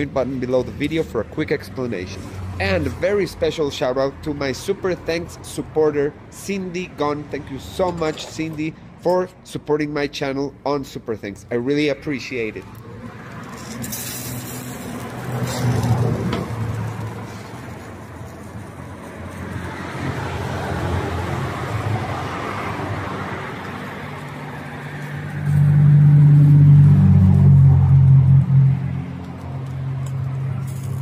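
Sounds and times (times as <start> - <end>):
vehicles passing by: 0.0 - 31.0.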